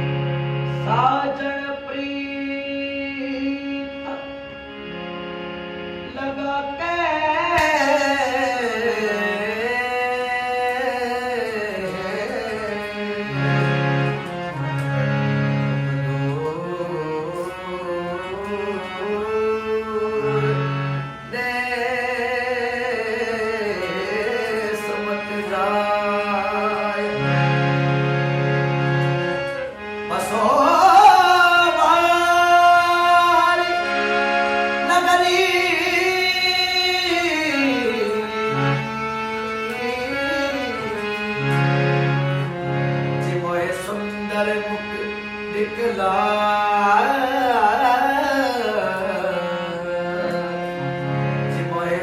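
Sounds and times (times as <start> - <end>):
held accompaniment notes: 0.0 - 52.0
person singing gliding melody: 6.0 - 52.0.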